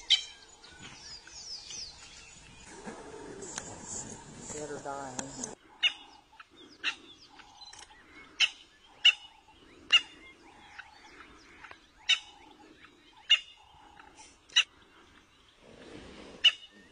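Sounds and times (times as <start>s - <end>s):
faint chirping: 0.0s - 16.9s.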